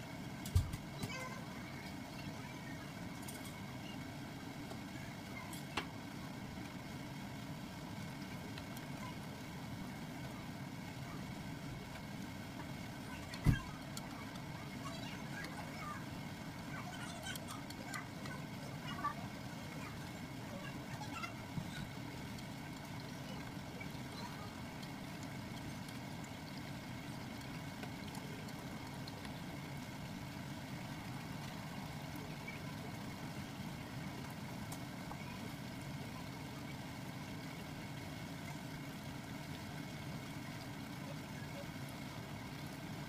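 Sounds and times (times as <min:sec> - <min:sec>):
shallots frying in bubbling oil: 0:00.0 - 0:43.0.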